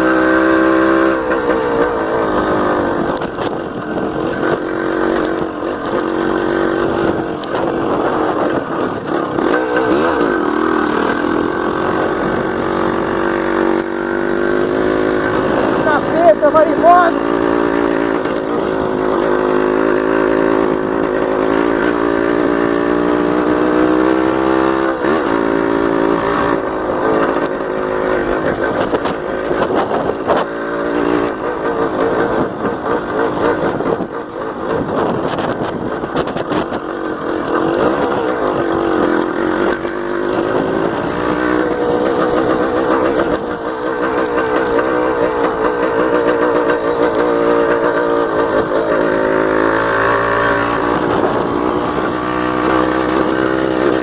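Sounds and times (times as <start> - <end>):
two-stroke motorcycle engine running: 0.0 - 54.0.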